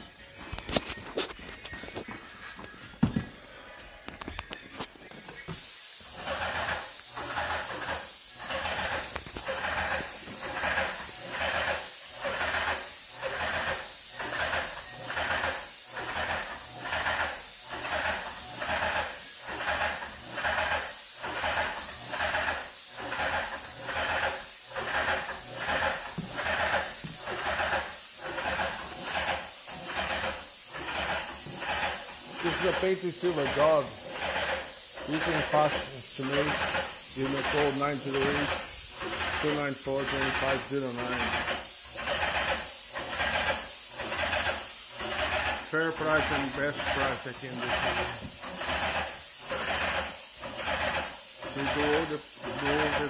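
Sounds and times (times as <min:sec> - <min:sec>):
paint sprayer hissing: 0:00.5 - 0:03.6, 0:04.2 - 0:53.0.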